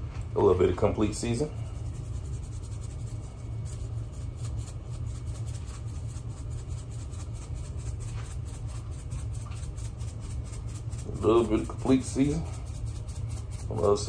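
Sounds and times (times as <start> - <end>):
steady low hum: 0.0 - 14.0
spice shaker ticking: 1.6 - 14.0.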